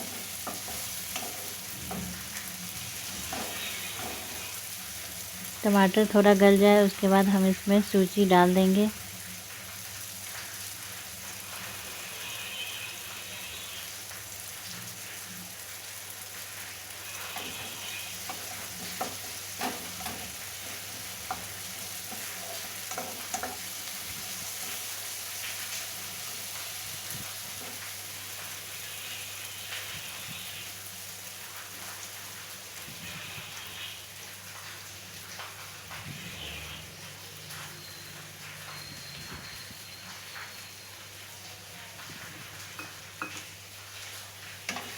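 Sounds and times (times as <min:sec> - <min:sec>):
vegetables sizzling in hot oil: 0:00.0 - 0:44.9.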